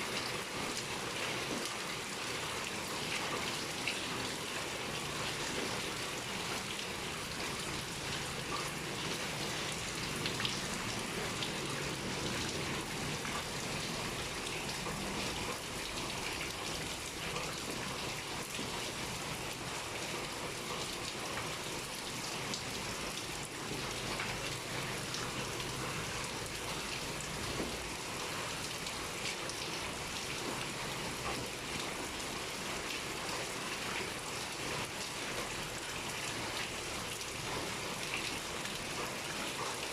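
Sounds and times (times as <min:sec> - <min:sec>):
heavy rain pattering: 0:00.1 - 0:39.9.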